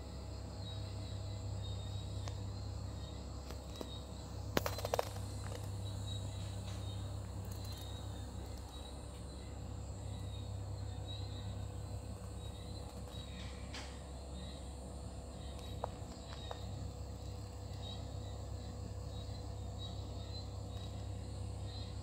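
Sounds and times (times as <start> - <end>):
constant low hum: 0.0 - 22.0
insects chirping: 0.0 - 22.0.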